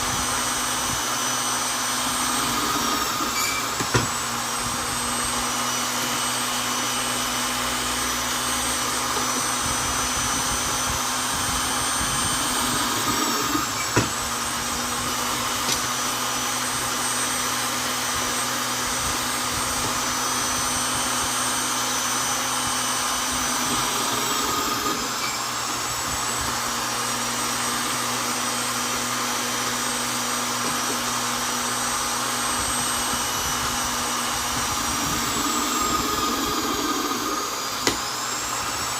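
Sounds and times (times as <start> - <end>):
electric drill boring into wood: 0.0 - 38.9.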